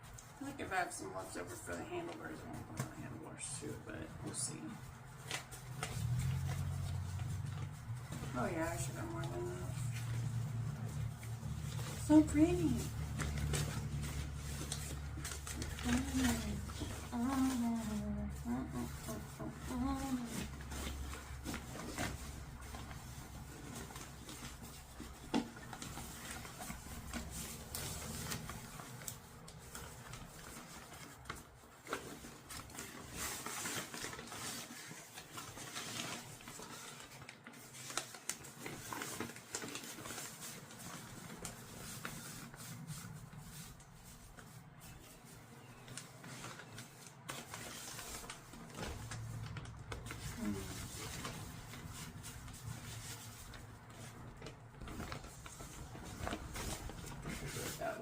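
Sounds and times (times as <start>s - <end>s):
canvas fabric rustling: 0.0s - 58.0s.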